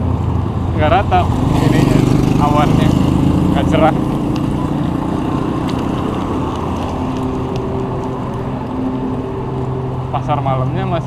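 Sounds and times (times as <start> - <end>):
low engine hum: 0.0 - 11.0
vehicle engines running: 0.0 - 11.0.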